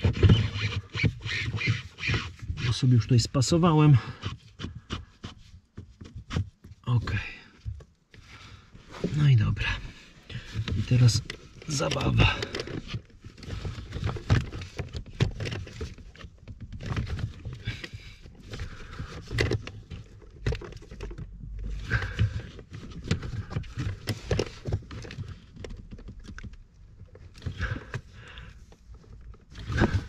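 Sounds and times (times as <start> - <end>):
rubber hose knocking and rubbing: 0.0 - 30.0.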